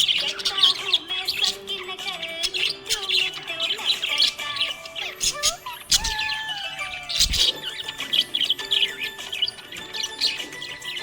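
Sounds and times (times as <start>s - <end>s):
parrots chirping: 0.0s - 11.0s.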